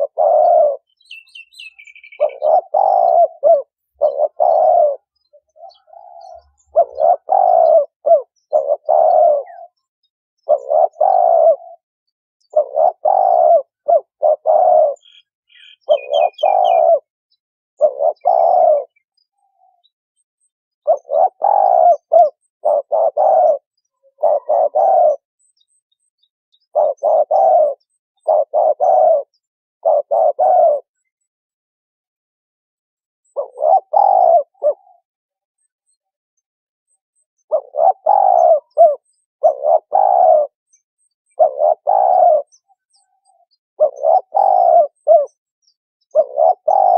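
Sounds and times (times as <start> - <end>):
dove cooing: 0.0 - 11.8, 12.4 - 17.1, 17.8 - 19.9, 20.8 - 25.3, 26.5 - 31.2, 33.2 - 35.1, 37.4 - 45.4, 46.0 - 46.9
small bird chirping: 0.0 - 11.8, 12.4 - 31.5, 32.9 - 46.9.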